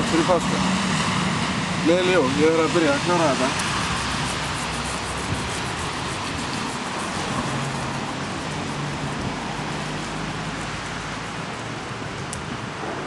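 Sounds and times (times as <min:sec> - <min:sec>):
outdoor traffic noise: 0:00.0 - 0:13.0.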